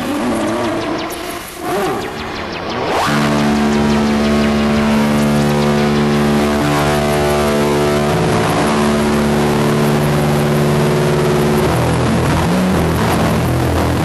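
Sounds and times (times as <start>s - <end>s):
electronic bass drone music: 0.0s - 14.0s.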